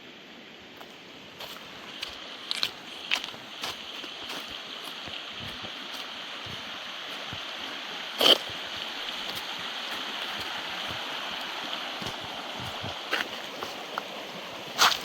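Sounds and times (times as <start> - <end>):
river water rushing: 0.1 - 15.0.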